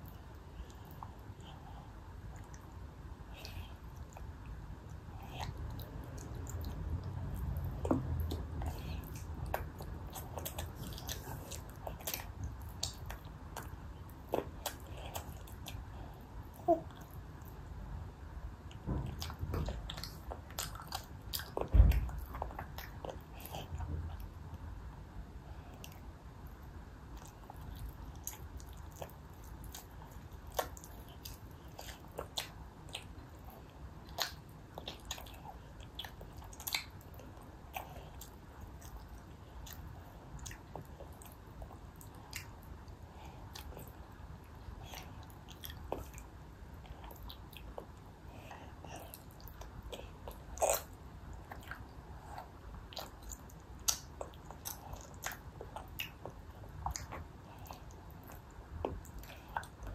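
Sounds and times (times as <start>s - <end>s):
toddler chewing: 5.1s - 17.2s, 18.7s - 24.2s, 27.2s - 44.0s, 44.8s - 59.9s.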